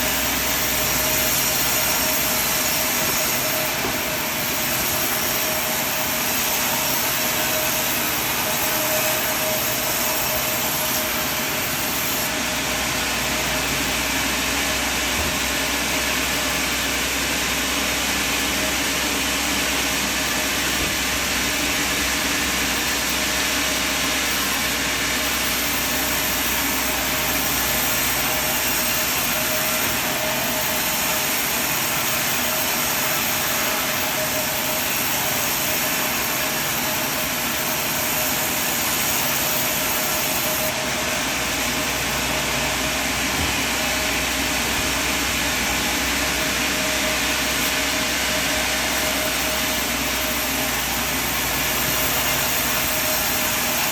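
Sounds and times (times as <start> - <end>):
sawmill machine noise: 0.0 - 53.9.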